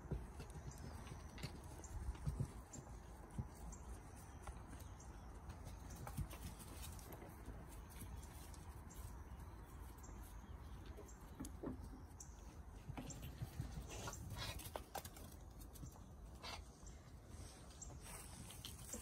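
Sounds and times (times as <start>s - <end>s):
goat hoof steps: 0.0s - 16.1s
low steady background noise: 0.0s - 19.0s.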